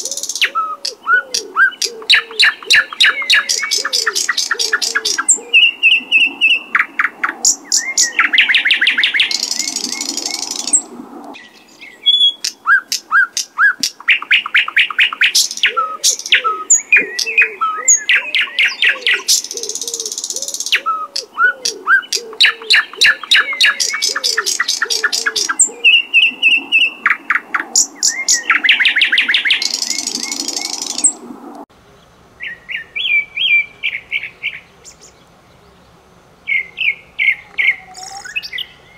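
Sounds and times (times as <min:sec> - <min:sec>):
softer lower bird calls: 0:00.0 - 0:31.3, 0:31.9 - 0:38.9
songbirds singing trills: 0:00.0 - 0:38.9.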